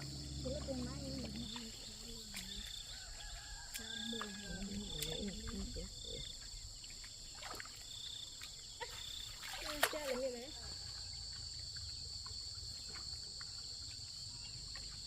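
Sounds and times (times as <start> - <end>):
high insect chorus: 0.0 - 15.0.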